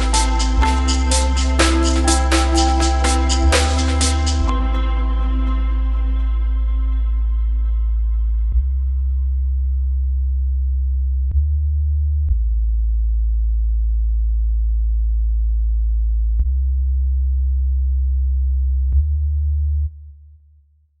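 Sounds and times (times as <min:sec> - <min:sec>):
deep electronic bass tones: 0:00.0 - 0:20.6.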